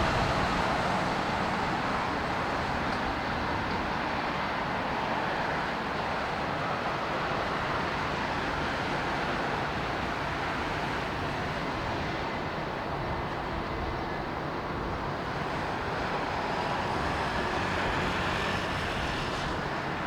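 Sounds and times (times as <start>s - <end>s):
jet engine noise: 0.0s - 20.0s.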